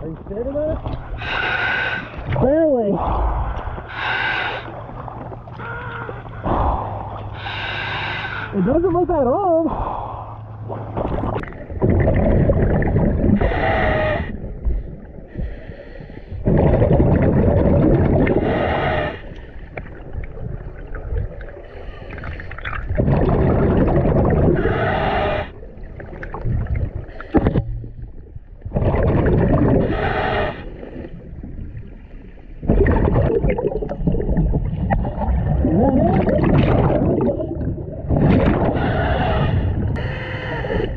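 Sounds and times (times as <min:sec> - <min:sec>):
exhaled bubbles rumbling: 0:00.0 - 0:40.9.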